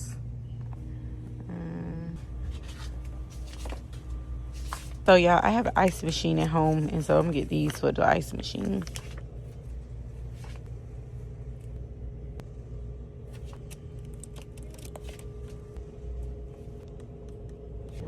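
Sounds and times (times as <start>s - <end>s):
faint constant hum: 0.0s - 18.0s.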